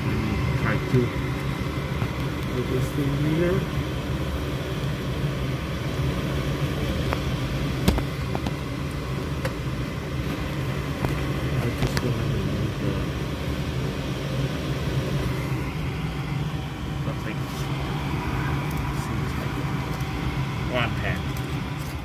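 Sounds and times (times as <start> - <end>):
furnace humming: 0.0 - 22.0.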